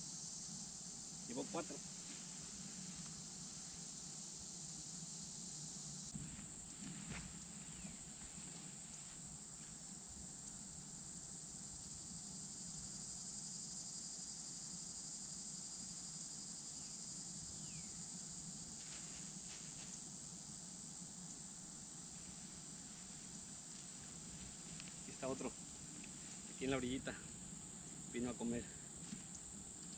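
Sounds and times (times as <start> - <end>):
insects trilling: 0.0 - 29.9.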